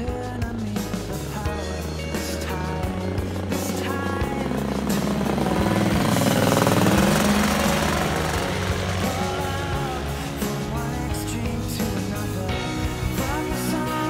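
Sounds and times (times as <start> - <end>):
music with steady bass: 0.0 - 14.0
paramotor engine passing overhead: 1.6 - 14.0.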